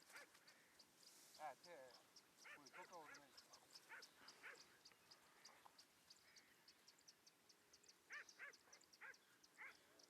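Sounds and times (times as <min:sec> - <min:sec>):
rapid high-pitched bird chirping: 0:00.0 - 0:10.0
short arching bird calls: 0:00.0 - 0:10.0.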